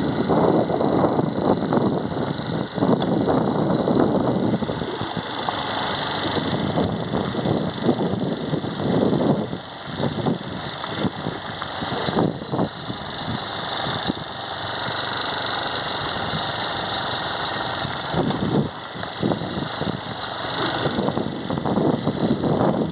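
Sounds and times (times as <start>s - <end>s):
wind buffeting microphone: 0.0s - 15.1s, 16.0s - 22.9s
steady rushing noise: 0.0s - 22.9s.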